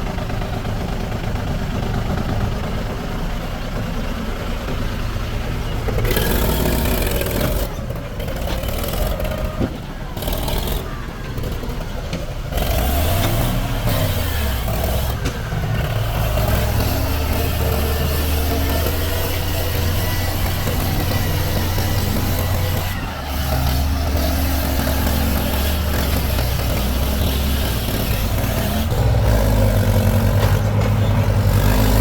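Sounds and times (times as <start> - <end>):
heavy diesel engine revving: 0.0 - 32.0.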